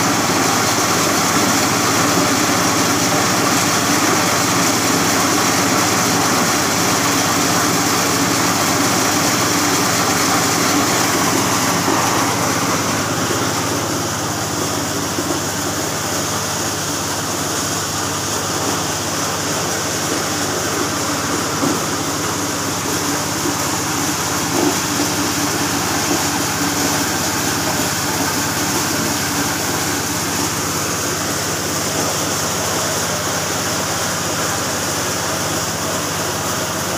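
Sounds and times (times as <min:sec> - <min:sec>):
corn sheller engine drone: 0:00.0 - 0:36.9.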